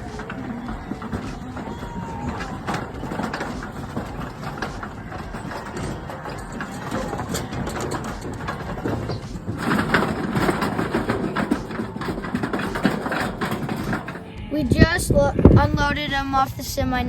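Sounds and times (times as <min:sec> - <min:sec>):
clatter of sheep hooves: 0:00.0 - 0:14.4
truck engine idling: 0:00.0 - 0:14.5.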